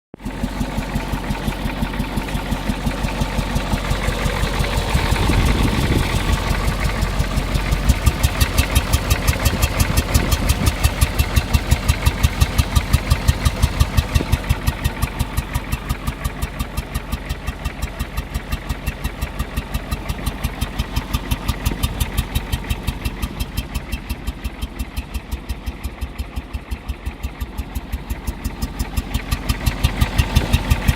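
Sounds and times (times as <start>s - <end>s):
diesel engine running: 0.2s - 30.9s.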